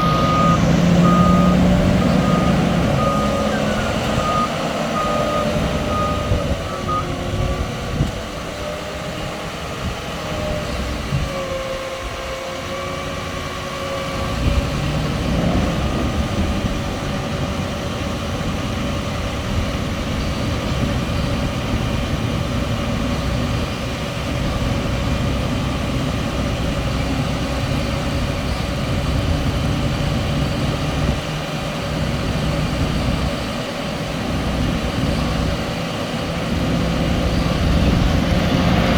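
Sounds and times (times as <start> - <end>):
tractor engine drone: 0.0 - 38.9.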